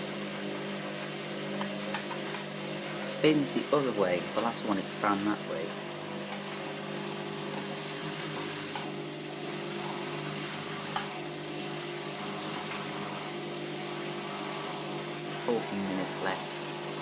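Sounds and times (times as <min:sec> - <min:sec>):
washing machine drum spinning: 0:00.0 - 0:17.0.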